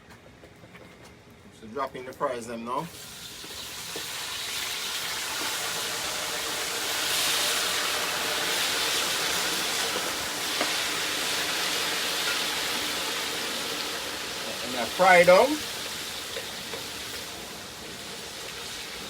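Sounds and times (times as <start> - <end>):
fries sizzling in hot oil: 2.7 - 19.0.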